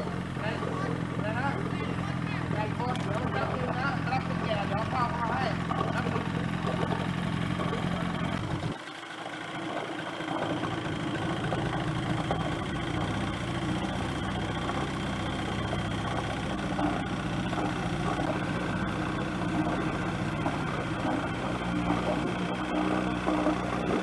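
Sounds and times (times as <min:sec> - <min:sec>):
vehicle engine running steadily: 0:00.0 - 0:24.0.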